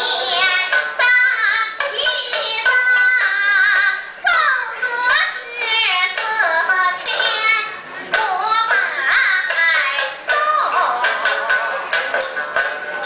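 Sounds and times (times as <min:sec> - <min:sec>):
string instrument: 0:00.0 - 0:13.0.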